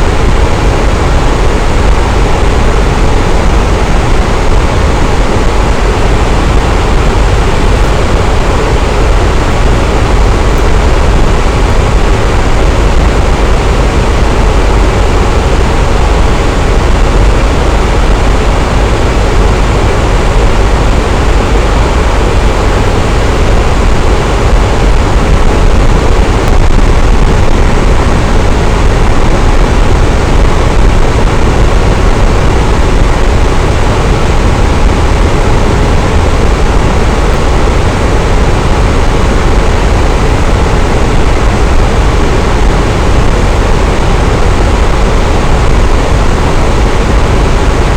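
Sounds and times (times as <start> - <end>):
electric fan humming: 0.0 - 47.9.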